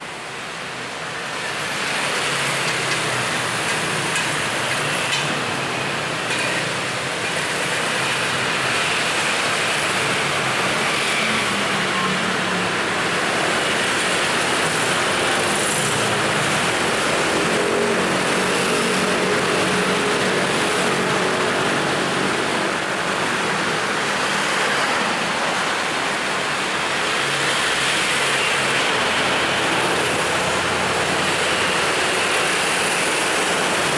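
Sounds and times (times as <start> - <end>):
road traffic: 0.0 - 33.9.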